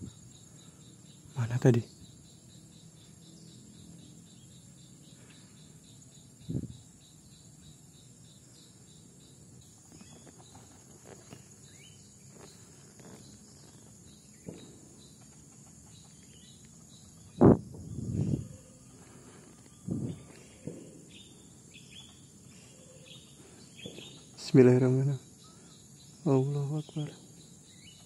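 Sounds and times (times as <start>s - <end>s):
crickets chirping: 0.0s - 28.0s
high insect drone: 0.0s - 28.0s.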